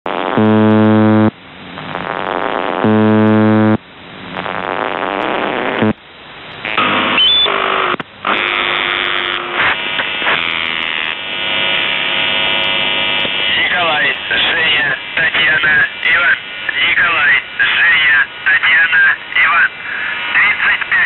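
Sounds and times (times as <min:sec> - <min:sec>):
low harsh radio buzzes: 0:00.1 - 0:06.0, 0:06.6 - 0:21.0
radio static: 0:00.1 - 0:06.0, 0:06.6 - 0:21.0
jumble of tones and noise: 0:00.1 - 0:21.0.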